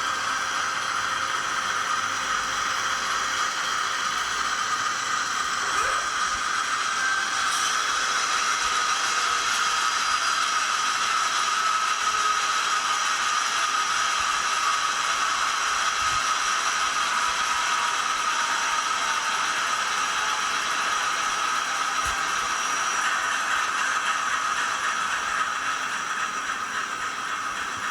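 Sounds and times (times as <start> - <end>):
model train diesel engine sound: 0.0 - 27.9.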